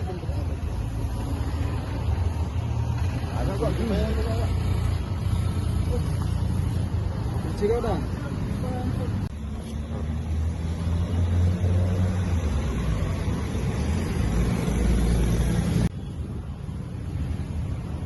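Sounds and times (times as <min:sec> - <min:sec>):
traffic hum: 0:00.0 - 0:18.0.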